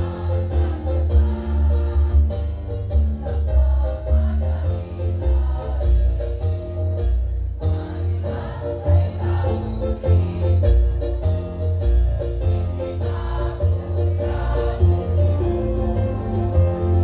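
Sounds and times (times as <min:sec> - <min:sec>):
women's choir singing: 0:00.0 - 0:06.4, 0:07.6 - 0:17.0
amplified accompaniment with heavy bass: 0:00.0 - 0:17.0.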